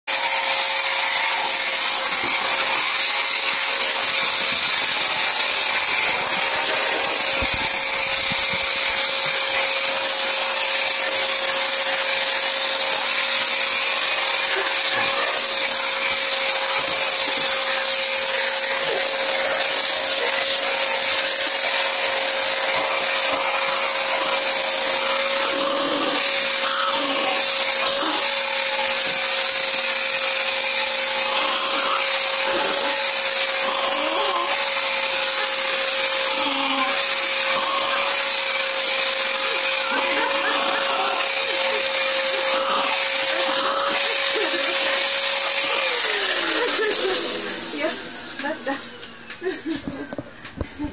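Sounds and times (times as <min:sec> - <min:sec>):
vacuum cleaner running: 0:00.1 - 0:50.9.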